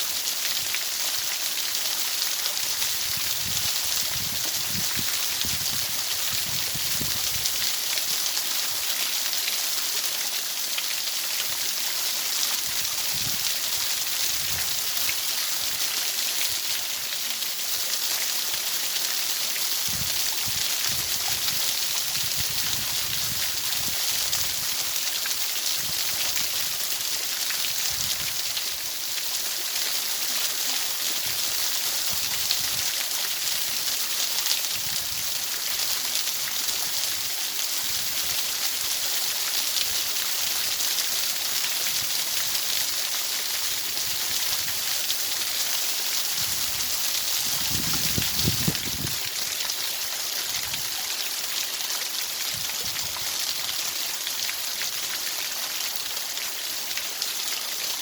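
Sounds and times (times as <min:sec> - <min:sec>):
rushing water hiss: 0:00.0 - 0:58.0.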